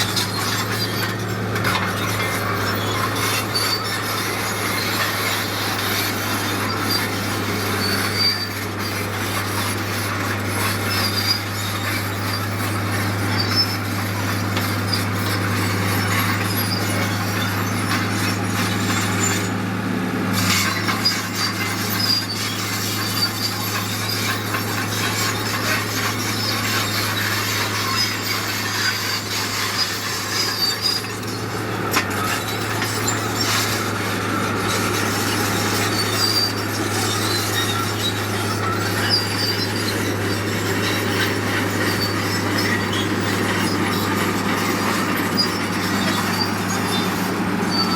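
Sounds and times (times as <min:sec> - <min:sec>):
diesel machinery engine drone: 0:00.0 - 0:47.9.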